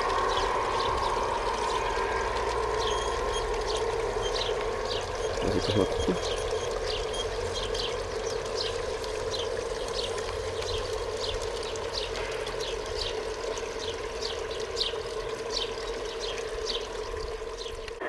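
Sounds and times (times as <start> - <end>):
constant hum: 0.0 - 18.0
water pouring and trickling: 0.0 - 18.0.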